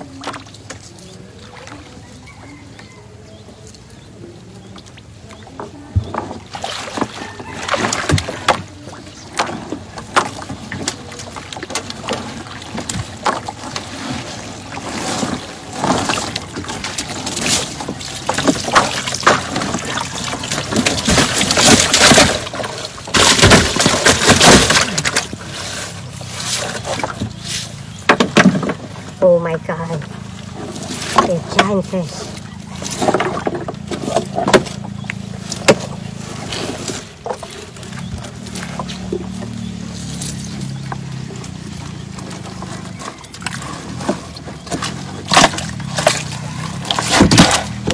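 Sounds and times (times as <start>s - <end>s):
water splashing and sloshing: 0.0s - 47.9s.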